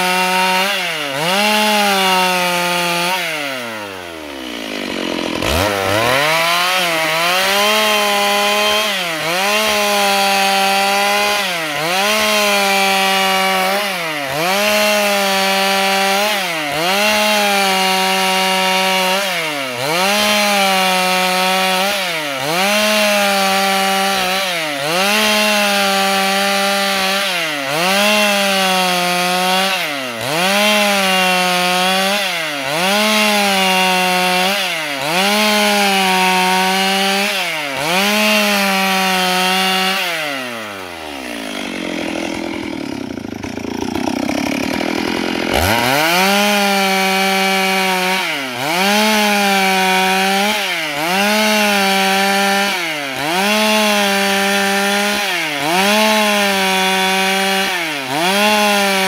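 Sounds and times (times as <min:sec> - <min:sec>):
chainsaw ripping a board: 0:00.0 - 0:59.0.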